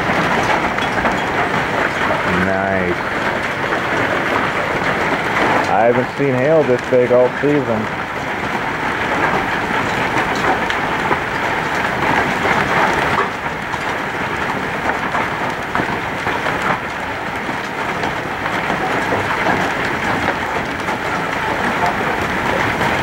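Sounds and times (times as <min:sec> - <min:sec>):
hailstones falling on grass and stone: 0:00.0 - 0:23.0.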